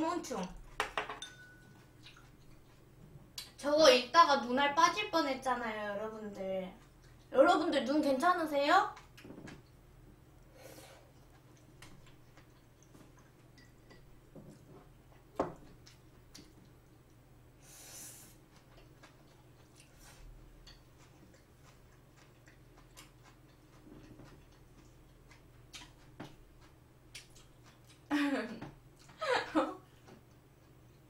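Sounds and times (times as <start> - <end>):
soft chewing: 1.6 - 3.6, 6.3 - 8.1, 8.9 - 29.2, 29.9 - 31.0.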